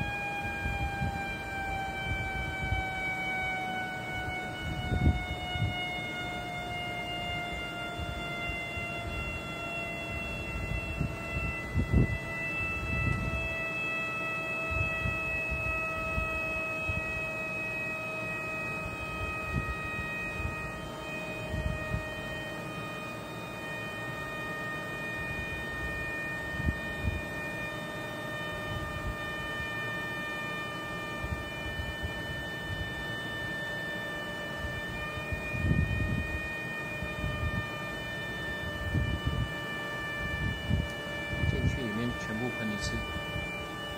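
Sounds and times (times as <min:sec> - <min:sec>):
leak detector humming tone: 0:00.0 - 0:43.9.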